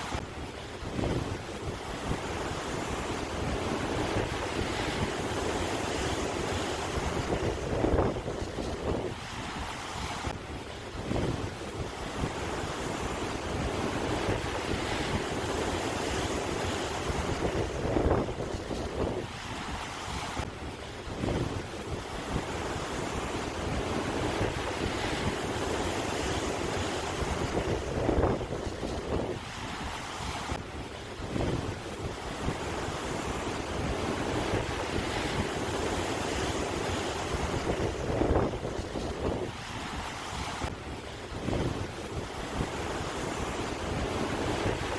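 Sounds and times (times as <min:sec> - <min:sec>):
ocean surf washing: 0:00.0 - 0:44.9
waves breaking: 0:00.0 - 0:44.9
wind buffeting microphone: 0:00.0 - 0:44.9.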